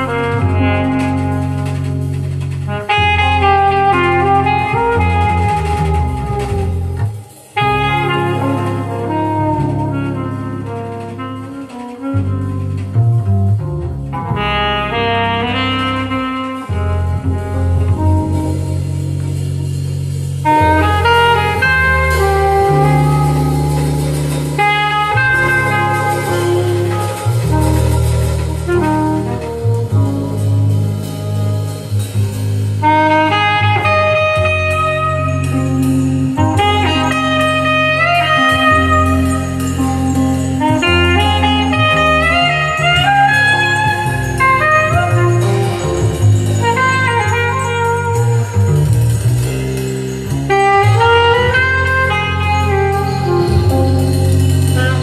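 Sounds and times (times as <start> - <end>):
recorded music with heavy bass: 0.0 - 55.0.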